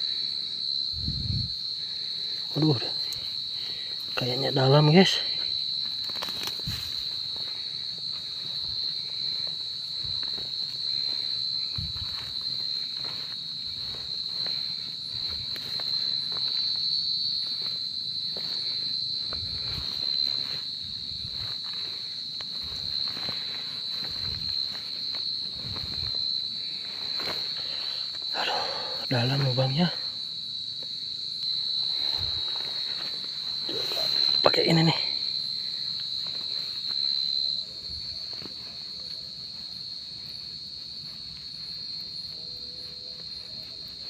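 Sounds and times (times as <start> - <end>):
cricket trilling: 0.0 - 44.0.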